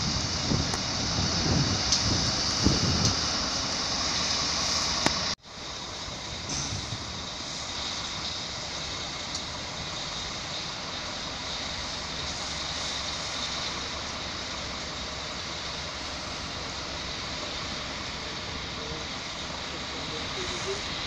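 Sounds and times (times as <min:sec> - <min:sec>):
railway hiss and rumble: 0:00.0 - 0:21.0.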